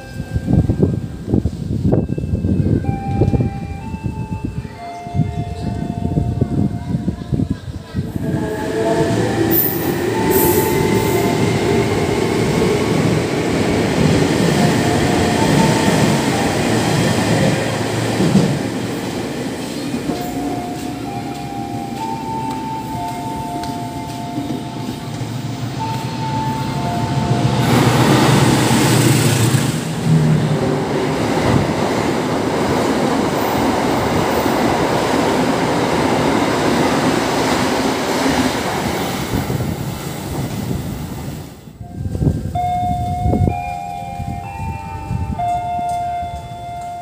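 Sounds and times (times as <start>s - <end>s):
diesel locomotive rushing past: 4.9s - 47.0s.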